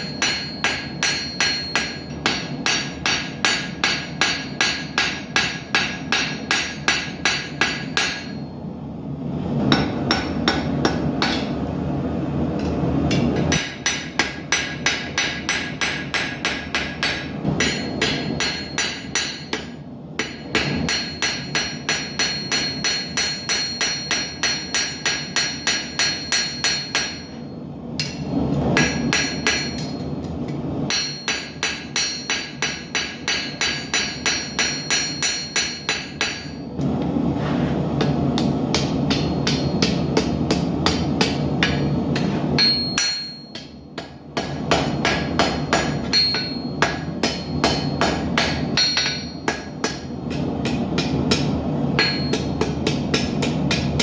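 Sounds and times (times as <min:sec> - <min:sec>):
hammer ringing on anvil: 0:00.0 - 0:08.7, 0:09.7 - 0:11.6, 0:13.1 - 0:30.3, 0:30.9 - 0:36.7, 0:38.0 - 0:54.0.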